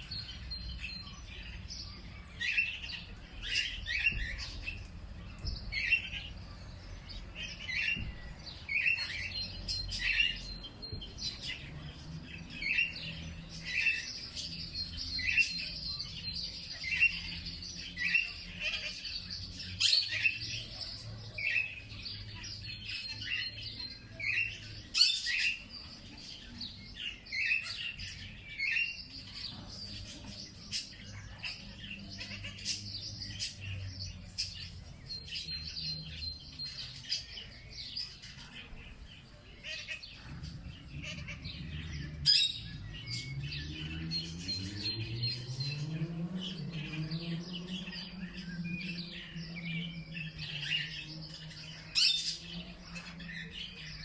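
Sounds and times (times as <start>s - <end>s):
birds chirping: 0.0s - 54.0s
sharp bird calls: 0.0s - 54.0s.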